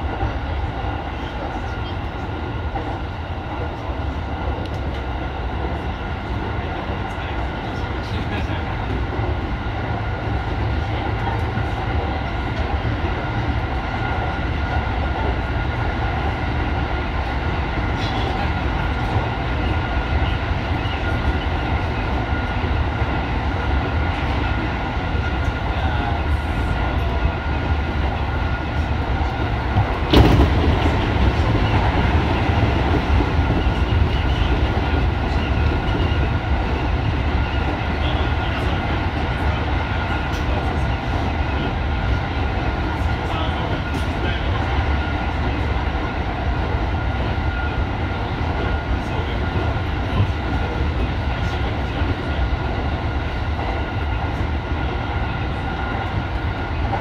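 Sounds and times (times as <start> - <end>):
electric train rumbling: 0.0 - 57.0
oncoming train passing: 0.0 - 57.0.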